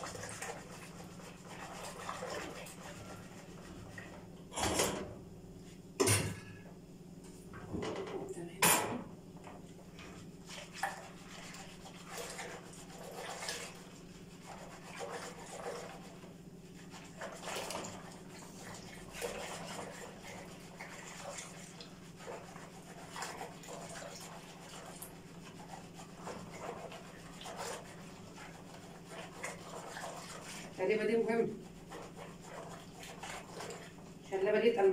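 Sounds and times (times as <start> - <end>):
whisk swishing in a bowl: 0.0 - 4.3, 10.0 - 34.9.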